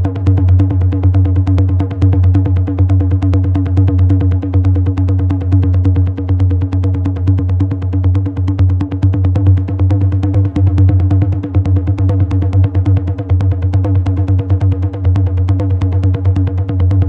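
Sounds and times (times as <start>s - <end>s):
deep bass: 0.0s - 17.0s.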